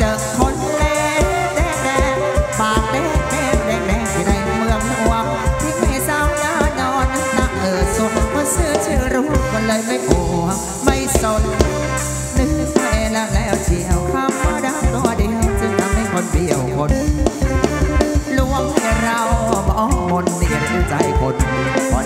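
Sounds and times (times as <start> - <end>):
dance band melody: 0.0 - 22.0
steady drum beat: 0.0 - 22.0.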